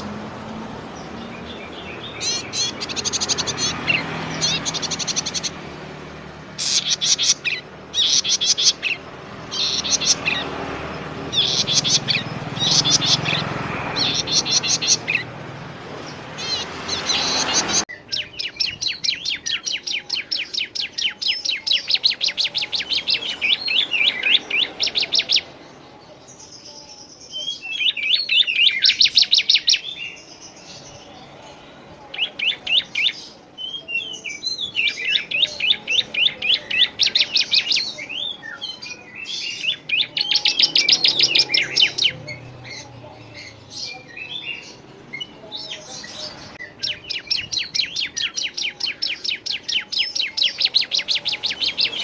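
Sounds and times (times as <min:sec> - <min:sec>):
songbirds trilling and chirping: 0:00.0 - 0:52.0.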